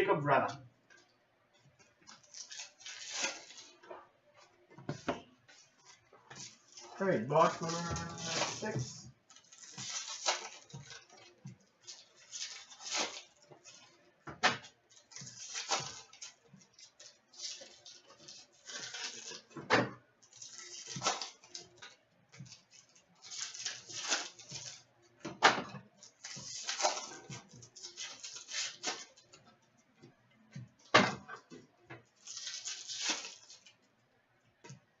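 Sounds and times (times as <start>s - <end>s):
wrappers rustling and tearing: 1.8s - 4.6s, 5.4s - 19.6s, 20.2s - 24.9s, 25.9s - 29.5s, 30.8s - 33.9s.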